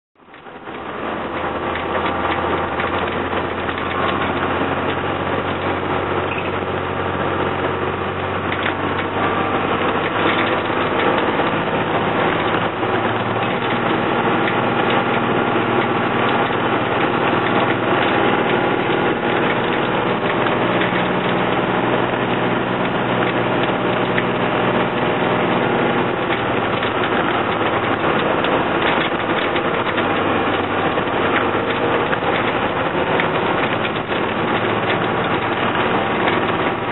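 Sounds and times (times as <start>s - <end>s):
bus diesel engine at full throttle: 0.2s - 36.9s.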